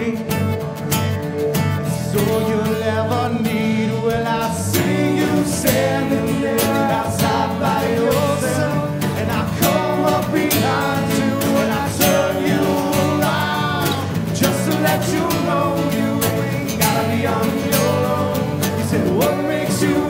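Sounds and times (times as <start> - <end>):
person singing into a microphone: 0.0 - 0.5, 2.0 - 20.0
electric bass line: 0.0 - 20.0
strummed acoustic guitars: 0.0 - 20.0.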